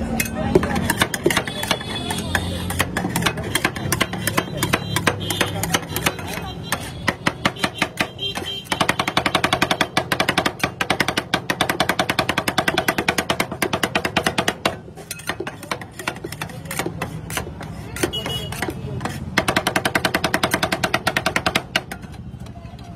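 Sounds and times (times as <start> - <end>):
metal spatulas chopping on steel plate: 0.0 - 22.3.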